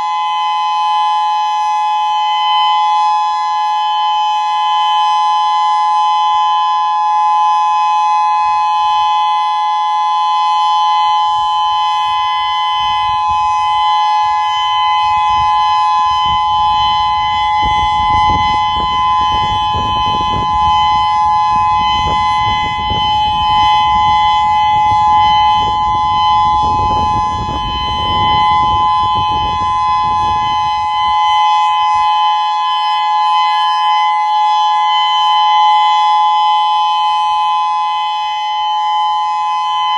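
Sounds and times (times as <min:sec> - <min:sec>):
two-note electronic siren: 0:00.0 - 0:39.9.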